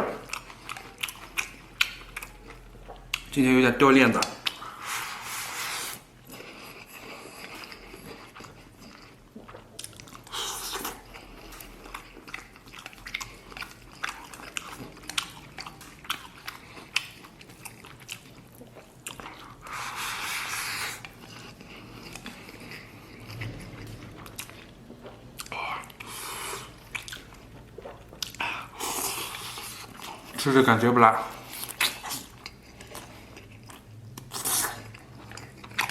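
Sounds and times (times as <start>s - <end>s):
close chewing with wet smacks: 0.0s - 3.4s, 4.1s - 4.8s, 6.1s - 30.6s, 31.3s - 35.9s.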